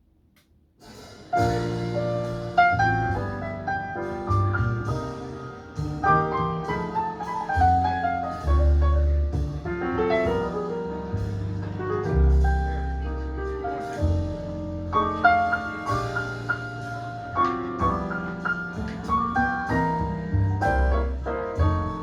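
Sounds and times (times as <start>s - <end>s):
jazz piano chords and runs: 0.9s - 22.0s
deep bass notes: 1.4s - 22.0s.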